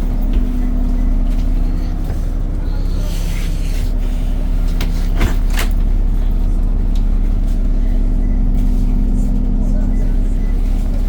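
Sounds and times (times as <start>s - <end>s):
bus engine and fan humming: 0.0s - 11.0s.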